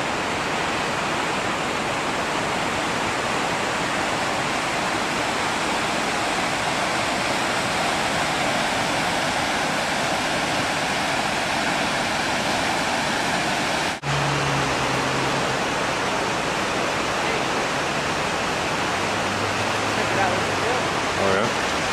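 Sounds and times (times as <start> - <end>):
river rushing over rocks: 0.0 - 21.9.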